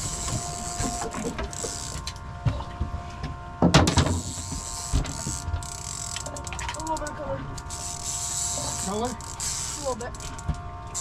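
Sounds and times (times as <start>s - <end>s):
fishing reel whirring and clicking: 0.0s - 2.2s, 4.1s - 11.0s.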